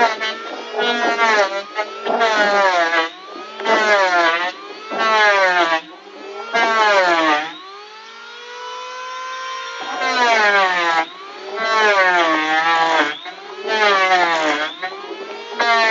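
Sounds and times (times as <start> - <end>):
angle grinder sanding wood: 0.0 - 15.9.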